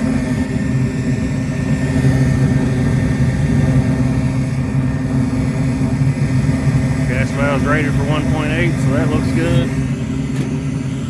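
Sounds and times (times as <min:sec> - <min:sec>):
motor and blower hum: 0:00.0 - 0:11.0.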